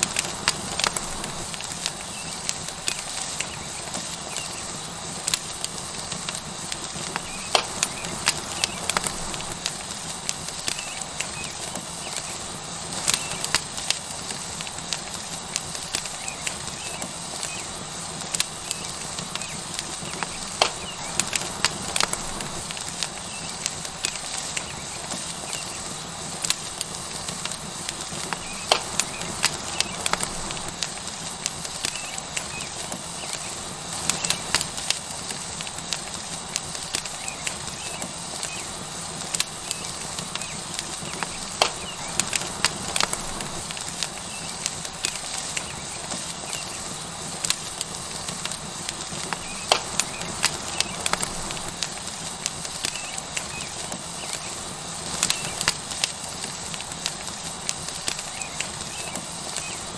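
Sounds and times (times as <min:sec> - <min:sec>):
fire pops and crackles: 0:00.0 - 0:59.9
steak sizzling on hot rock: 0:00.0 - 0:59.9.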